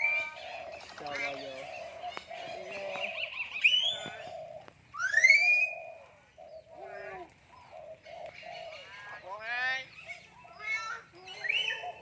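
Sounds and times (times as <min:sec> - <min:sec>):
myna birds whistling: 0:00.0 - 0:12.0.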